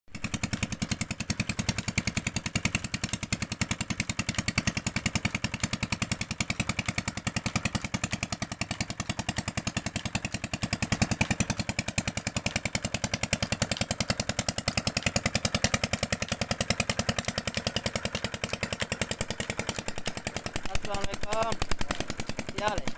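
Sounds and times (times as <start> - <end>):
diesel engine chugging: 0.1 - 22.9.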